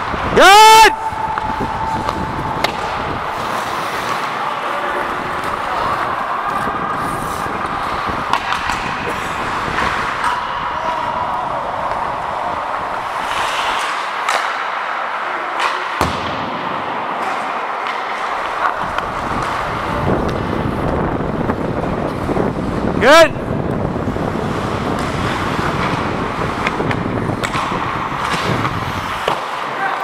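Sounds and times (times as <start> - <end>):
air over microphone: 0.0 - 13.8, 18.6 - 29.3
hockey sticks and puck clacking: 0.0 - 30.0
ice skating rush: 0.0 - 30.0.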